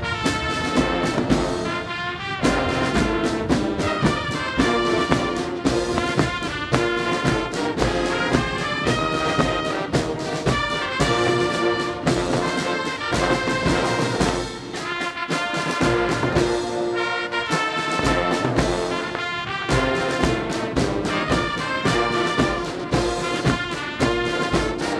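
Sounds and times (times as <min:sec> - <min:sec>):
brass band playing a march: 0:00.0 - 0:24.9.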